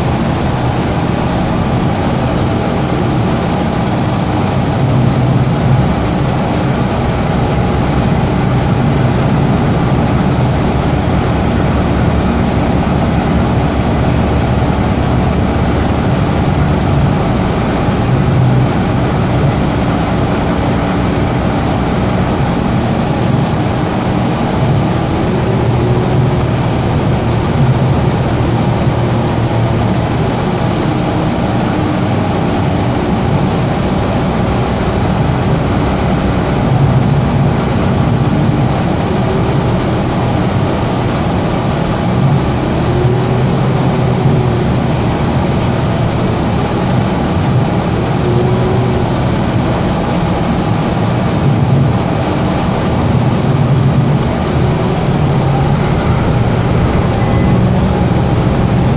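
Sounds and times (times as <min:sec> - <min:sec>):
air conditioning running: 0:00.0 - 0:58.9
bus drivetrain drone: 0:00.0 - 0:58.9
faint rising whine: 0:00.1 - 0:58.9.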